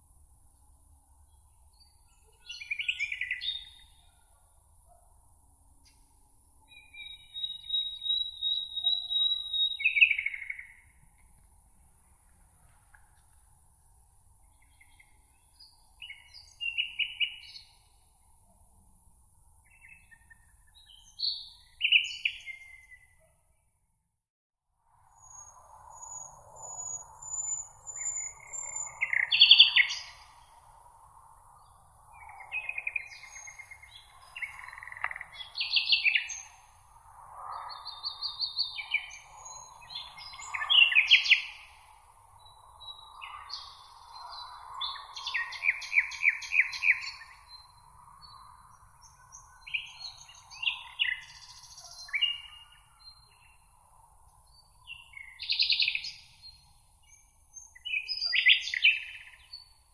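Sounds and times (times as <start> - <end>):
songbirds singing: 1.2 - 5.0, 5.8 - 11.4, 14.4 - 18.1, 19.6 - 23.3, 25.2 - 59.9.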